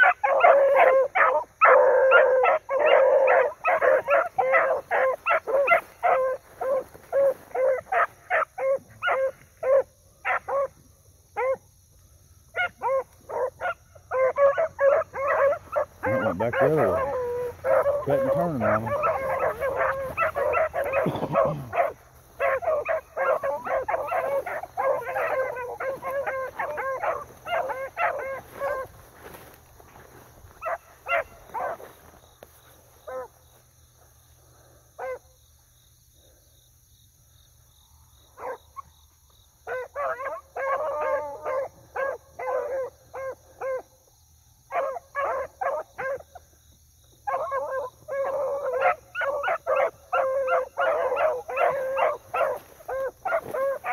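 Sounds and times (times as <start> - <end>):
hounds baying and barking: 0.0 - 35.5, 38.1 - 53.9.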